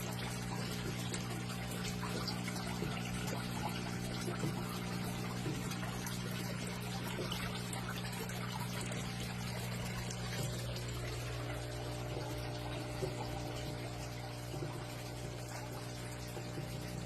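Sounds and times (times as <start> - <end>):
water trickling and pouring: 0.0 - 17.0.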